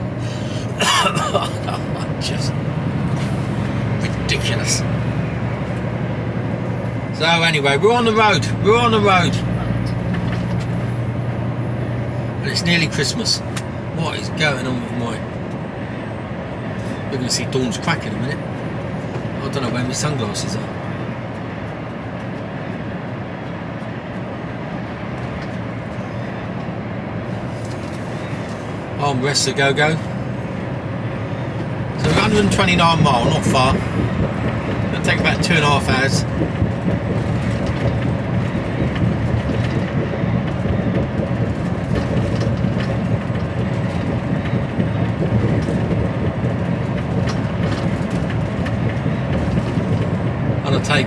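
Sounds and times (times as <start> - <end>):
lorry diesel engine: 0.0 - 51.0
road rumble: 0.0 - 51.0.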